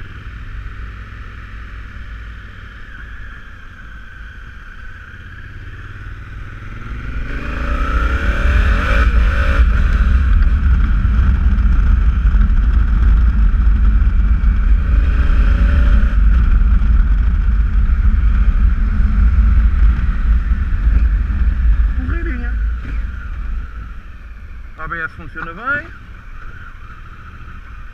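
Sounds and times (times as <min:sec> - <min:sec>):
motorcycle engine accelerating: 0:00.0 - 0:27.9.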